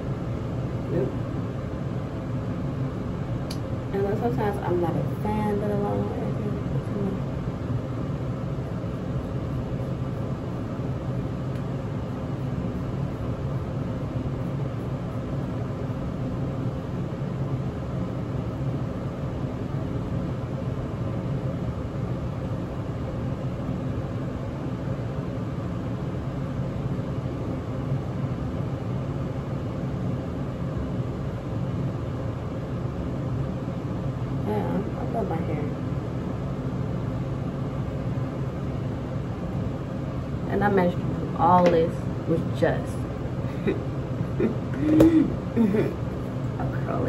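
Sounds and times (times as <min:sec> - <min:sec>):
steady mechanical hum with hiss: 0:00.0 - 0:47.0.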